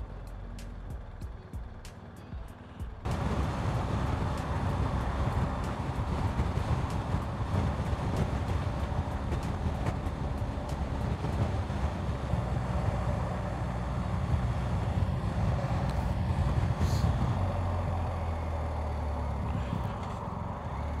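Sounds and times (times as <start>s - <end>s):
motorcycle engine: 0.0s - 21.0s
road noise: 0.0s - 21.0s
wind rush: 3.0s - 18.2s, 19.3s - 21.0s.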